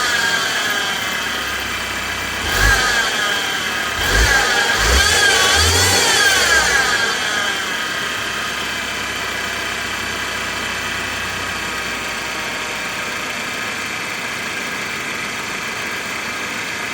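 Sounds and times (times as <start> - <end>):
car engine revving and idling: 0.0 - 16.9.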